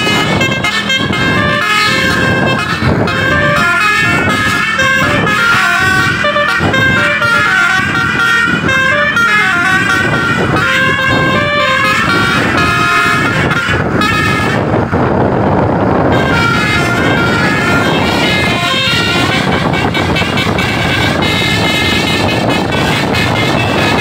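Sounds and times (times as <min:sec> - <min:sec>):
musical air horn playing a tune: 0:00.0 - 0:14.8, 0:16.0 - 0:24.0
loud noisy rush: 0:00.0 - 0:24.0.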